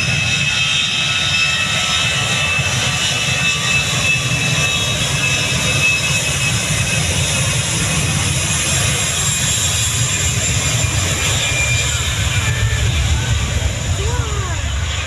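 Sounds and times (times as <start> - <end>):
jet engines running loud: 0.0 - 15.0.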